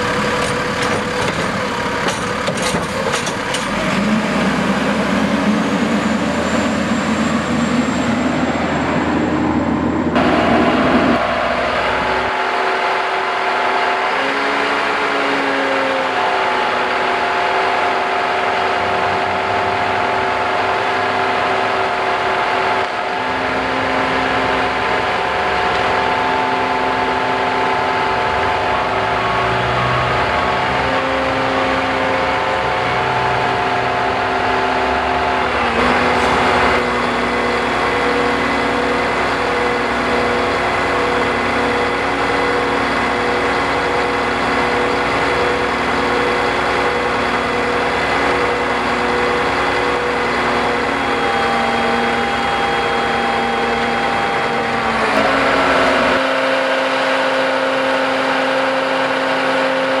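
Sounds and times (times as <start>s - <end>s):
truck diesel engine running: 0.0s - 60.0s.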